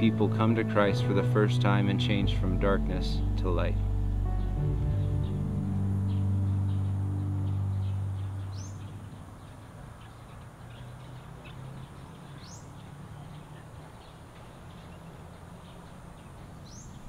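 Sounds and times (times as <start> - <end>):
birds chirping: 0.0 - 17.0
low sustained music chord: 0.0 - 17.0.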